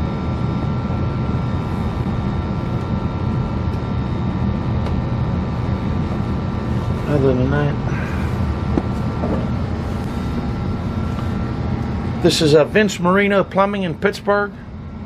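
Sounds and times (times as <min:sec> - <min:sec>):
faint steady whine: 0:00.0 - 0:15.0
gas burner rumbling: 0:00.0 - 0:15.0.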